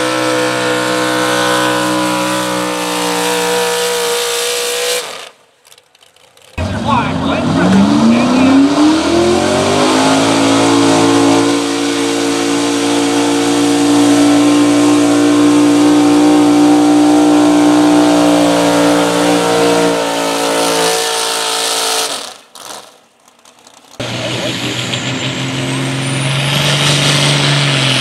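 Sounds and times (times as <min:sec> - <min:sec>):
truck engine at full throttle: 0:00.0 - 0:05.6, 0:06.2 - 0:28.0.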